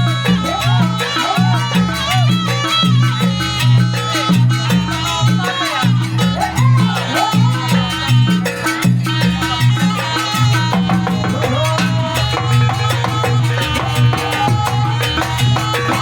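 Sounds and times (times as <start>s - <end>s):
rapid drumming: 0.0s - 16.0s
sliding melody: 0.0s - 16.0s
stepping bass line: 0.0s - 16.0s.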